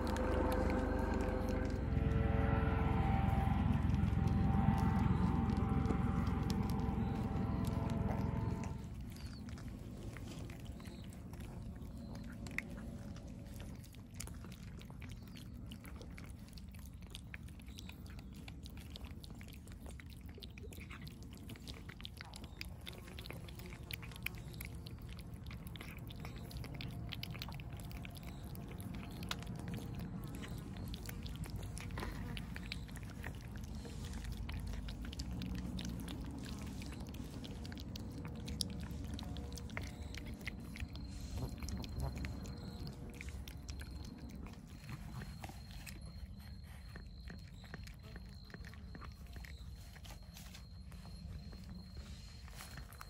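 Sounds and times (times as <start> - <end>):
cats chewing and smacking: 0.0 - 53.0.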